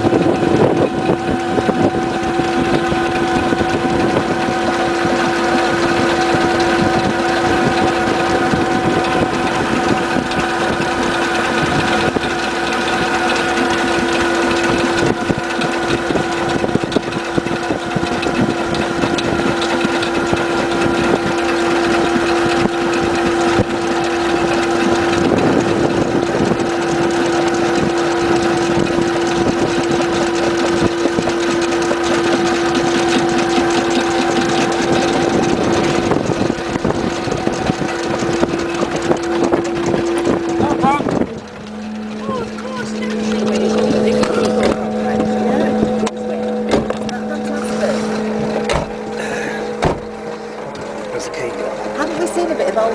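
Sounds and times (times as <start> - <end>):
ferry engine droning: 0.0 - 52.9.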